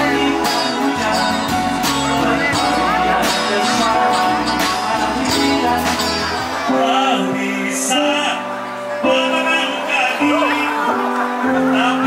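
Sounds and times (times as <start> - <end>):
live rock band playing: 0.0 - 12.0
man singing: 0.0 - 12.0.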